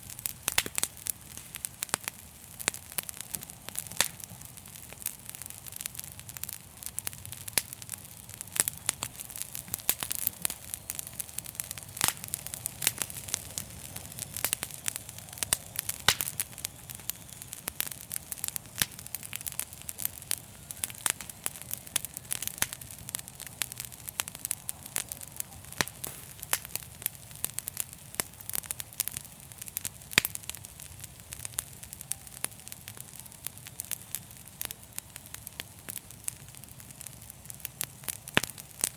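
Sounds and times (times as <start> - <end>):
low rumble of flames: 0.0 - 38.9
wood crackling and popping: 0.0 - 38.9.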